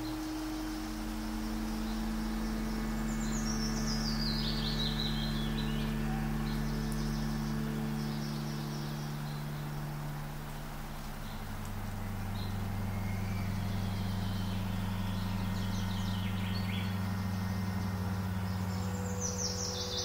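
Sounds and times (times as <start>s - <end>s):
dark low drone: 0.0s - 20.0s.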